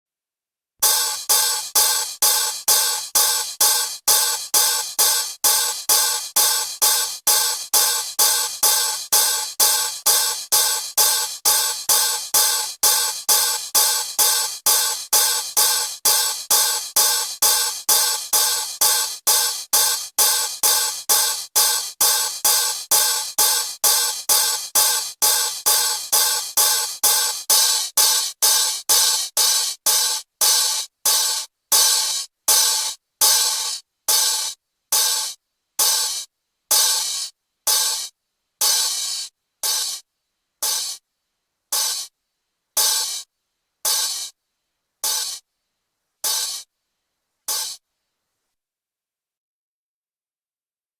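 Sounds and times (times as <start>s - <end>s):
toy monkey clashing cymbals: 0.8s - 40.0s, 40.6s - 41.0s, 41.7s - 42.1s, 42.8s - 43.2s, 43.9s - 44.3s, 45.0s - 45.4s, 46.2s - 46.6s, 47.5s - 47.8s.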